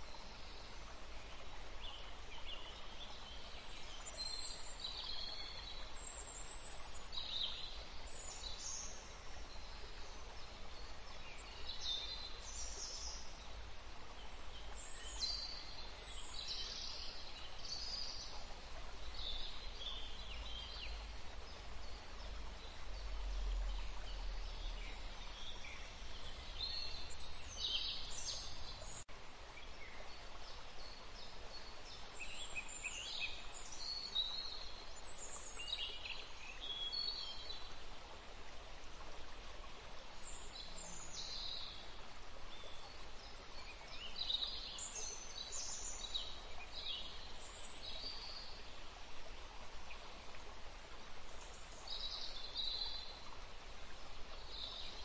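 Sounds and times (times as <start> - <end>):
outdoor background hiss: 0.0 - 55.0.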